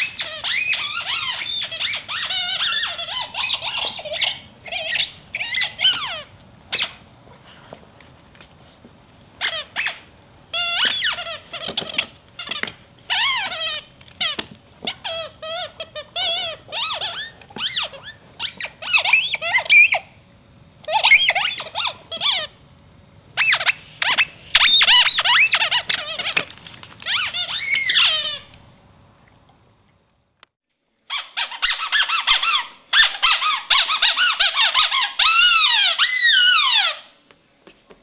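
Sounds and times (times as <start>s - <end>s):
dog toy squeaking: 0.0s - 7.0s, 9.4s - 20.0s, 20.9s - 22.5s, 23.4s - 28.6s, 31.1s - 37.1s.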